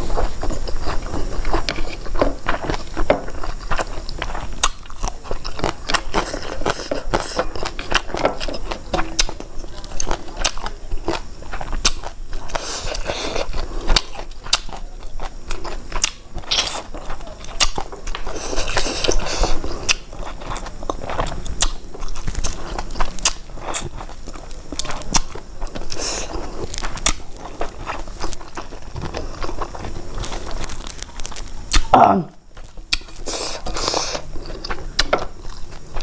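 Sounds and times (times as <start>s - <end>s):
person chewing salad: 0.0s - 36.0s.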